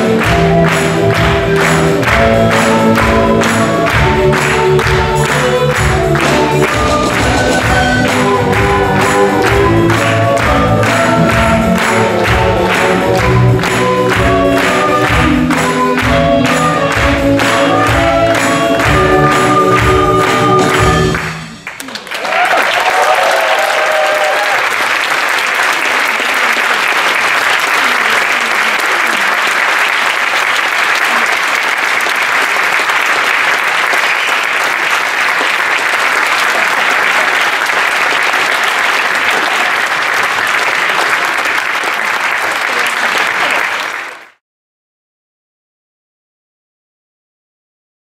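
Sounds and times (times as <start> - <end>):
audience applauding: 0.0 - 44.4.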